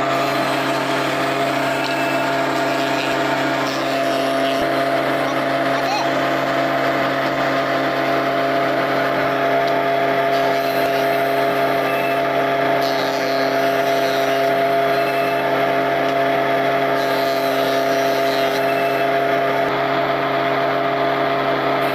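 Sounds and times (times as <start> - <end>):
electric planer motor humming: 0.0 - 21.9.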